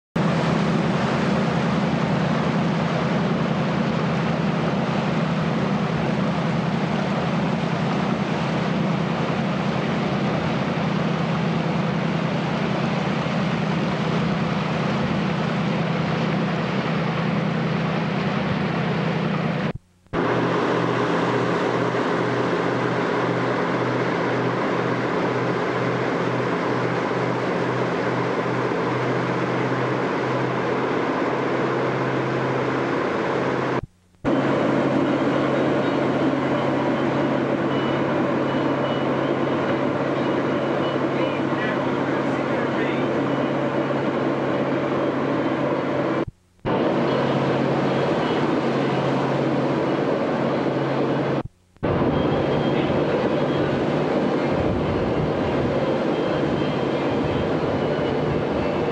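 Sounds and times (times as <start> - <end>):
boat engine running: 0.2 - 58.9
hiss of wind and water: 0.2 - 58.9.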